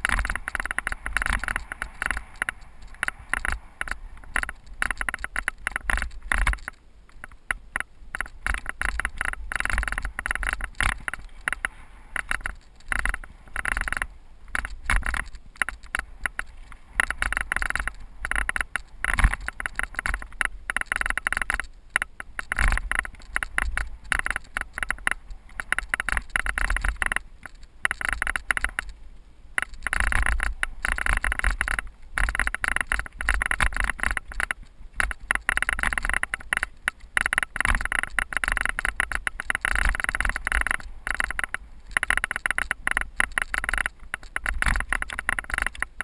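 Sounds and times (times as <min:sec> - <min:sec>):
bike rattling over rough dirt: 0:00.0 - 0:29.0, 0:29.6 - 0:46.0.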